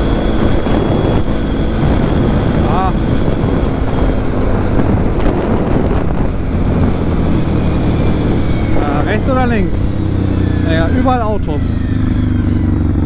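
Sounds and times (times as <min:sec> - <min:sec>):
quad engine running: 0:00.0 - 0:13.0
wind rushing over microphone: 0:00.0 - 0:13.0.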